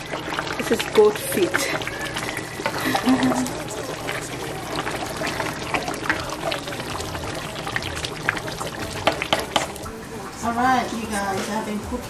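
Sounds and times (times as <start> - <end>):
spoon stirring stew: 0.0 - 10.4
stew simmering and bubbling: 0.0 - 12.0.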